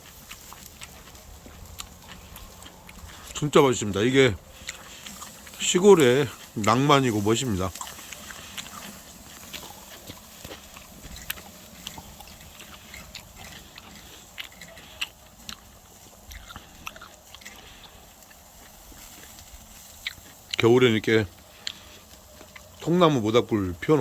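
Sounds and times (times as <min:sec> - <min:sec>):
person chewing: 0:00.0 - 0:20.7, 0:21.4 - 0:22.9.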